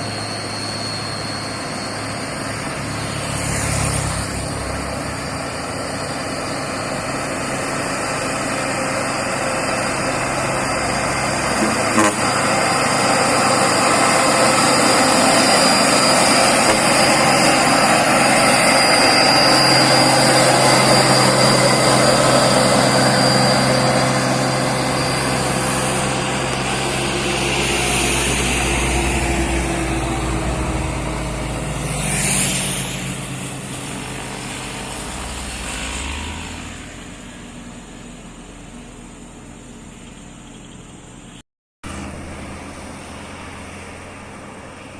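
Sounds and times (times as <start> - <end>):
heavy truck engine labouring: 0.0 - 41.3.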